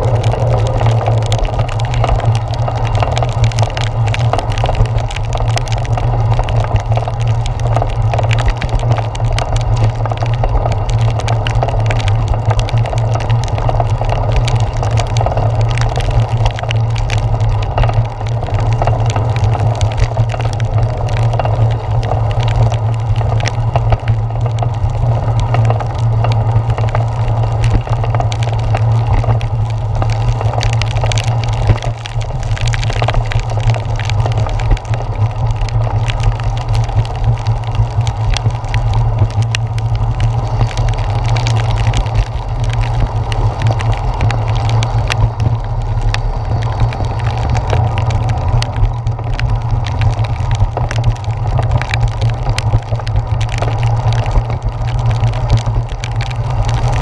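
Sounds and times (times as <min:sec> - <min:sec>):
raindrops tapping on camera: 0:00.0 - 0:57.0
wind and tyres rumbling: 0:00.0 - 0:57.0.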